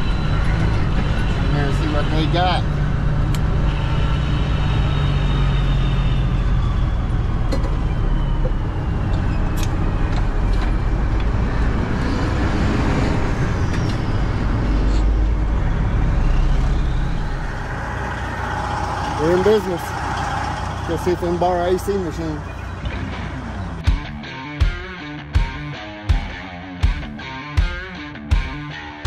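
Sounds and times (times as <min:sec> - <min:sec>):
truck diesel engine running: 0:00.0 - 0:24.2.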